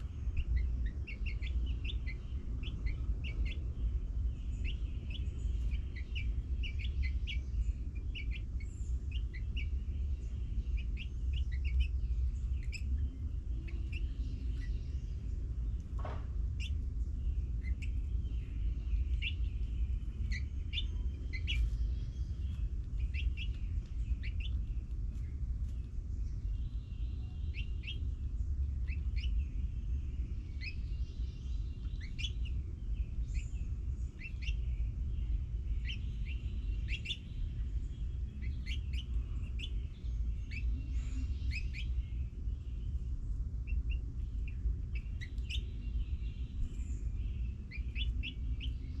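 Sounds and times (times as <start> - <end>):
small birds chirping: 0.0 - 49.0
steady low rumble: 0.0 - 49.0.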